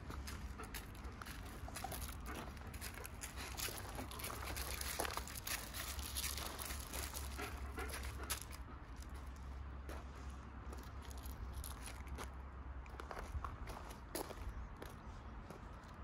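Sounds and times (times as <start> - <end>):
dog paws crunching on gravel: 0.0 - 15.7.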